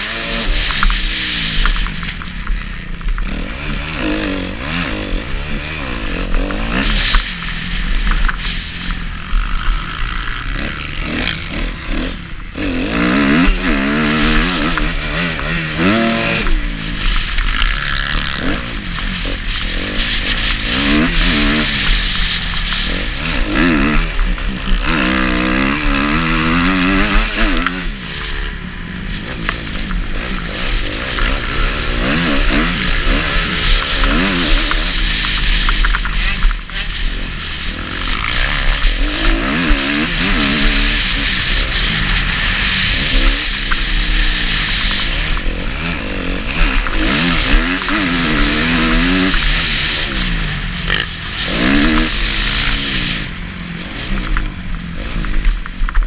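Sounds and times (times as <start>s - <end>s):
motocross bike engine revving: 0.0s - 56.0s
steady rushing hiss: 0.0s - 56.0s.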